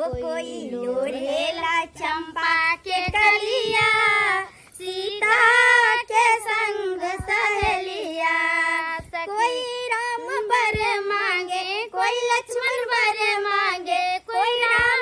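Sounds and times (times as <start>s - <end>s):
women singing folk song: 0.0s - 15.0s.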